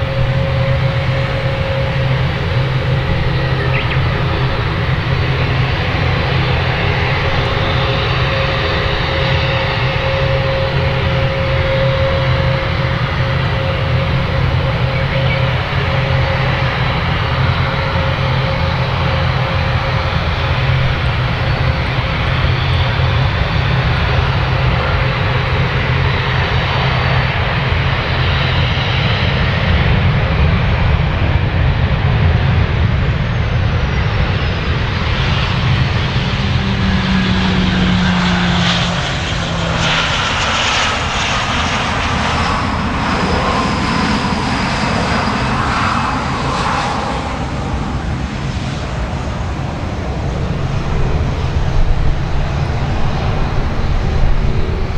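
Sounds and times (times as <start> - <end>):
jet engine whine falling in pitch: 0.0 - 54.9
jet engines running: 0.0 - 54.9.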